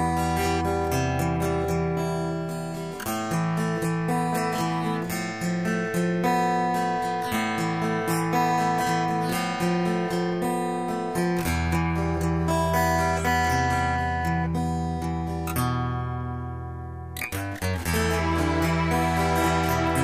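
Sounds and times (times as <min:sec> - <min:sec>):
plucked and strummed guitar: 0:00.0 - 0:20.0.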